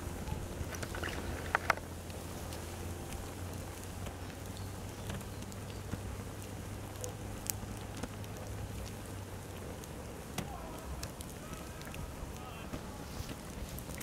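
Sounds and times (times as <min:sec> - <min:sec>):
burning fabric crackling: 0:00.0 - 0:14.0
steady low hum: 0:00.0 - 0:14.0
small ticks and pops: 0:00.2 - 0:14.0.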